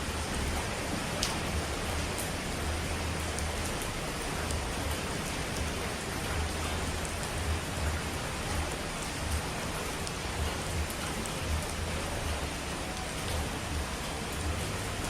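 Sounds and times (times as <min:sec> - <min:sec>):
water rushing down: 0:00.0 - 0:15.0.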